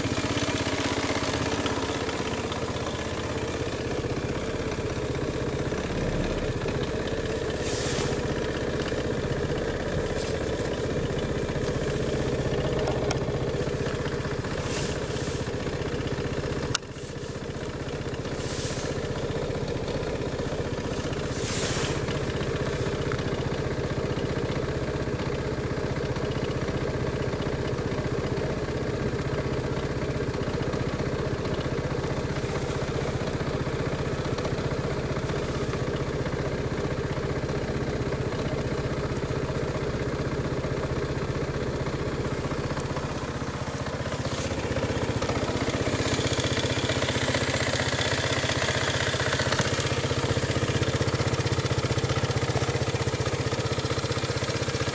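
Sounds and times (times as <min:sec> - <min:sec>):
scooter engine idling: 0:00.0 - 0:54.9.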